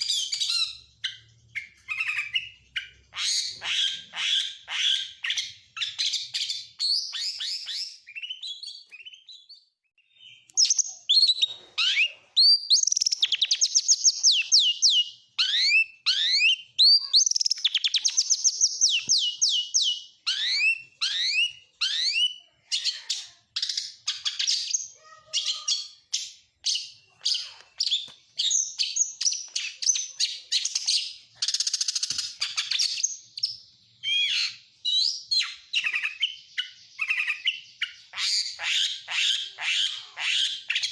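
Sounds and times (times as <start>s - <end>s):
magpie-robin singing trills and whistles: 0.0s - 40.9s.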